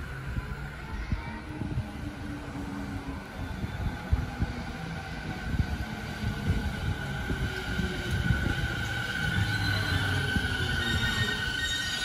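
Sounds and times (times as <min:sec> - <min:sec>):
train high whine: 0:00.0 - 0:12.0
train wheels rumbling on rail: 0:00.0 - 0:12.0.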